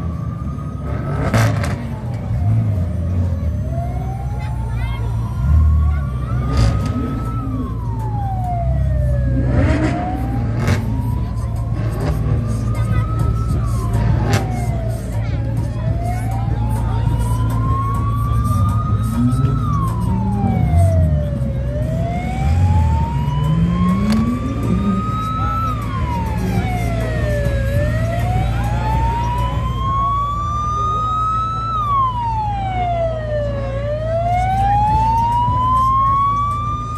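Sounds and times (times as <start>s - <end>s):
siren wailing: 0.0s - 36.9s.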